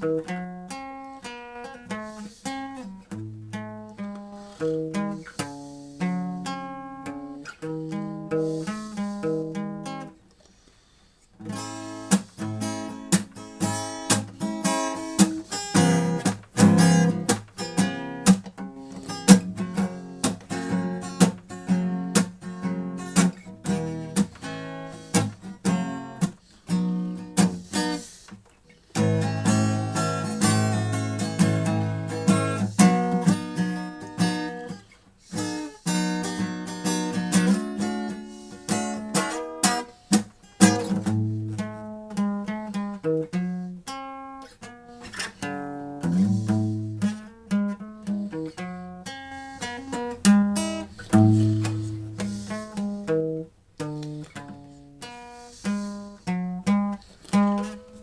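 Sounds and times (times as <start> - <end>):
plucked string instrument: 0.0 - 10.4, 11.4 - 58.0.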